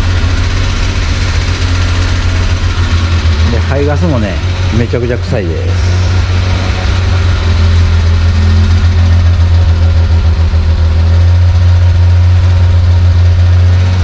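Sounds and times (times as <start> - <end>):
truck engine idling roughly: 0.0 - 14.0.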